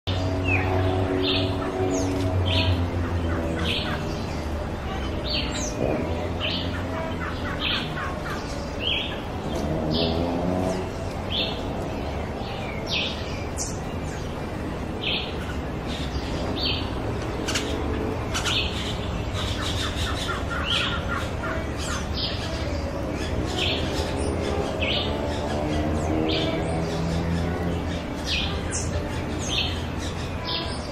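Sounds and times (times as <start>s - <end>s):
bird chirping: 0.1s - 30.9s
wavering bird notes: 0.1s - 30.9s.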